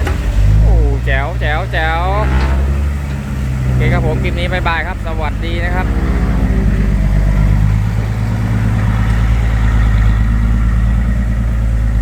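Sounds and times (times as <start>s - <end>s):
truck diesel engine idling low: 0.0s - 12.0s.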